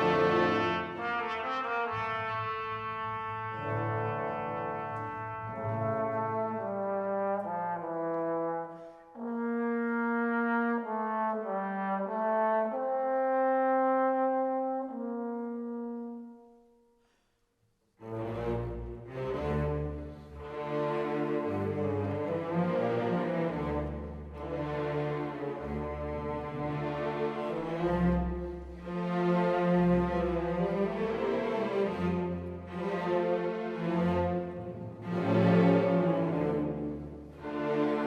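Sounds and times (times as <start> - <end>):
orchestral music: 0.0 - 16.4, 18.0 - 38.0
slow brass melody: 0.0 - 17.3, 18.0 - 38.0.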